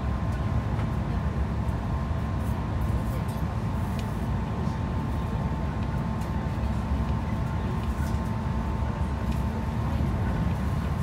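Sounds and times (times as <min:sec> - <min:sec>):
electric train running rumble: 0:00.0 - 0:11.0.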